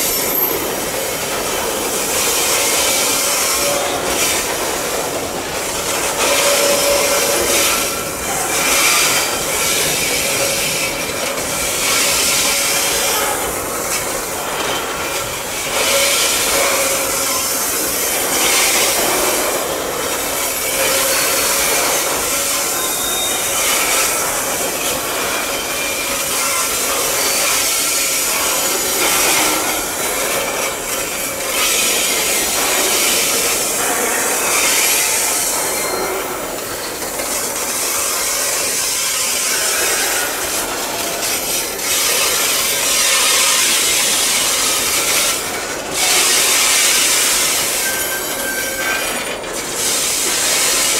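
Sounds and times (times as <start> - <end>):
train wheels grinding and squealing: 0.0 - 50.9.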